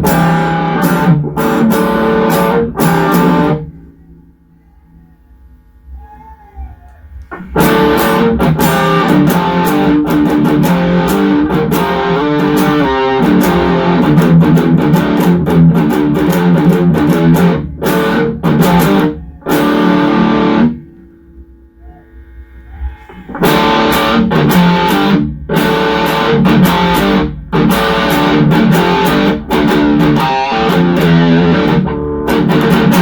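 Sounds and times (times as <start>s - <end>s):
distorted electric guitar riff: 0.0s - 6.4s, 7.1s - 33.0s
faint amp hum: 0.0s - 33.0s.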